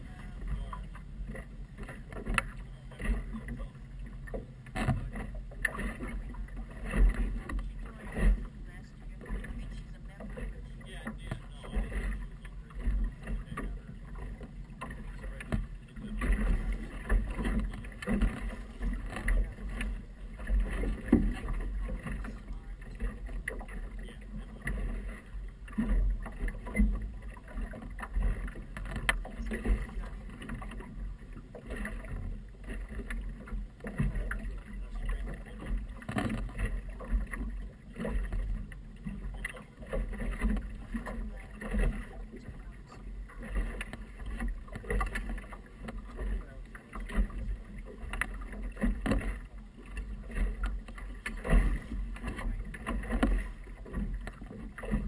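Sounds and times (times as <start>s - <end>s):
water slapping against boat hull: 0.0s - 55.0s.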